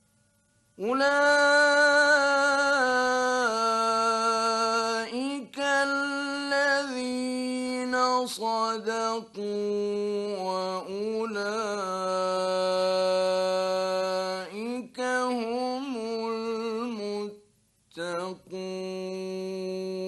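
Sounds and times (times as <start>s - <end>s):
man chanting melodically: 0.8s - 20.0s.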